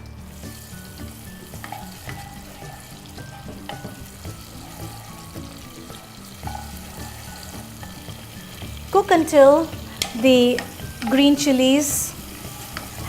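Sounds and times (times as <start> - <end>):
background music: 0.0 - 13.0
food sizzling in hot oil: 0.0 - 13.0.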